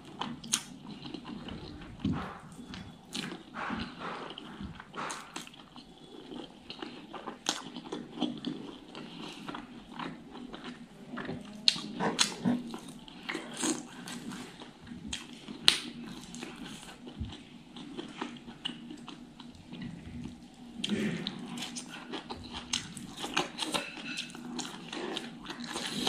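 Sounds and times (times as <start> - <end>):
chewing mouth sounds: 0.0 - 26.0.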